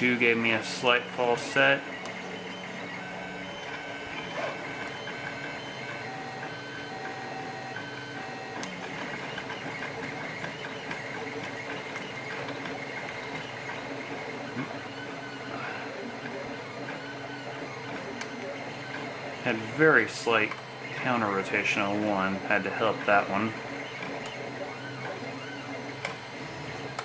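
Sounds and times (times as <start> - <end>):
printer motors whining: 0.0 - 27.0.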